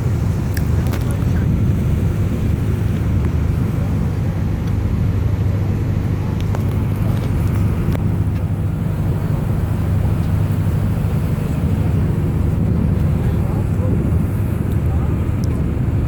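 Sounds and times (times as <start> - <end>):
ferry engine droning: 0.0 - 16.0.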